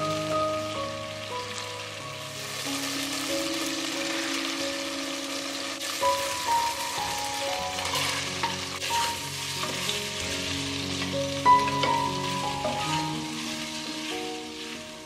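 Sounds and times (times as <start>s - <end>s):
background music: 0.0s - 15.0s
onion sizzling in a pot: 0.0s - 15.0s.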